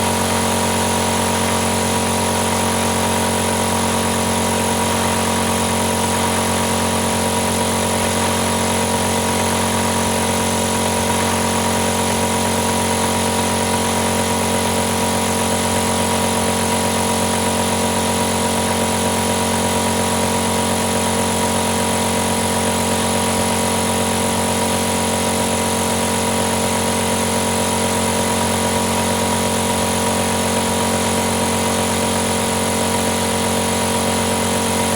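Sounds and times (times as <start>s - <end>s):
compressor motor humming: 0.0s - 34.9s.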